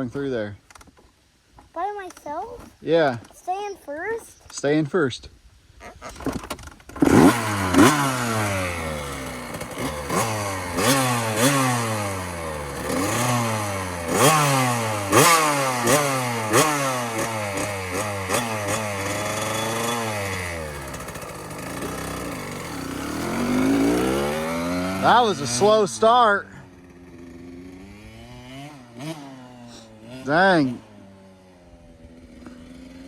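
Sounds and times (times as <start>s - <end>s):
dirt bike engine revving: 5.9s - 33.0s.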